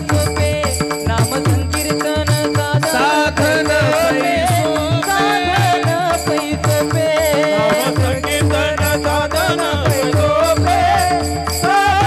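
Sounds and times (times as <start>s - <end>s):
men singing together: 0.0s - 12.0s.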